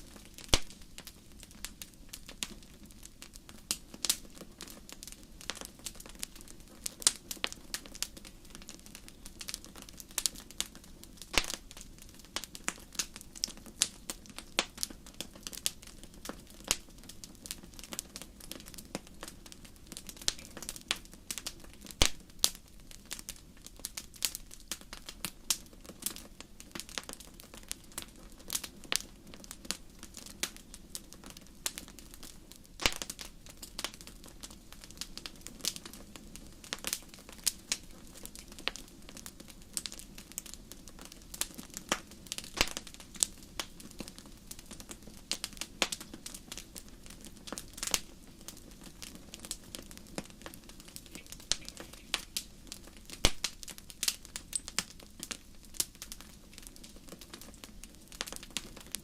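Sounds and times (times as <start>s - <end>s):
low hiss of flames: 0.0s - 59.0s
wood fire crackling and popping: 0.0s - 59.0s.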